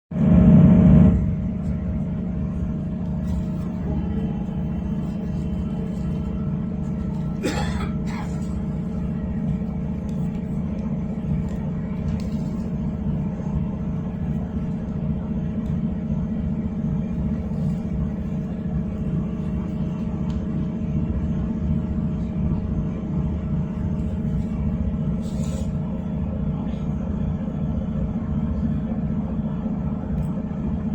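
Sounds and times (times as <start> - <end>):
train rumble inside carriage: 0.1 - 30.9
steady hum: 0.2 - 30.9.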